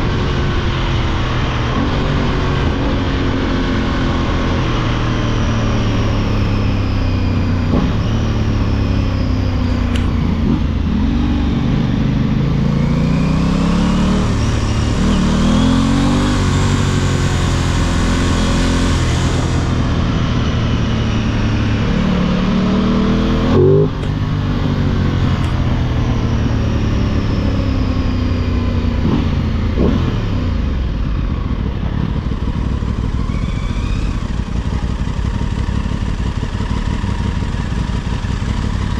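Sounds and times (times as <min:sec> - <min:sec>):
motorcycle engines idling and revving: 0:00.0 - 0:38.9.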